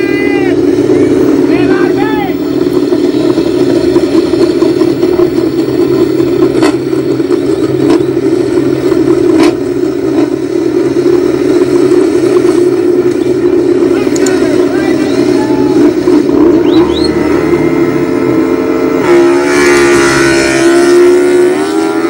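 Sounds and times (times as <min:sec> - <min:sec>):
motorbike engines idling: 0:00.0 - 0:22.0.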